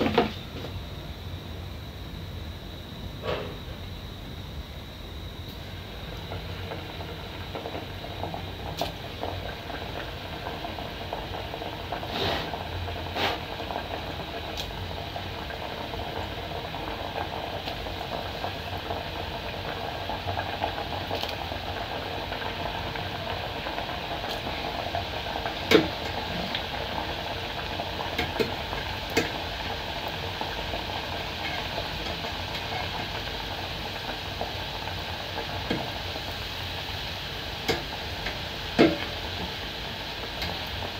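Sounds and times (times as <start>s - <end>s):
dough deep-frying in hot oil: 0.0s - 40.9s.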